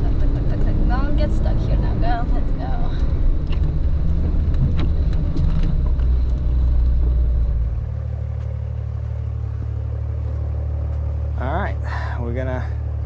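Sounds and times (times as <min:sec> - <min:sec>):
engine rumbling through snow: 0:00.0 - 0:13.0.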